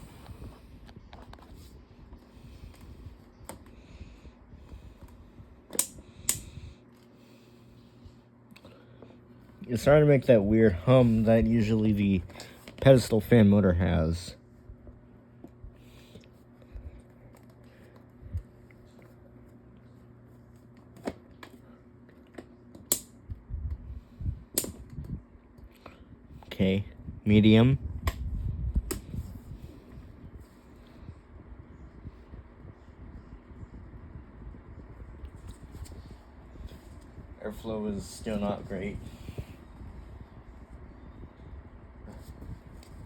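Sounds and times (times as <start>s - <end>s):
table fan running: 0.0s - 43.0s.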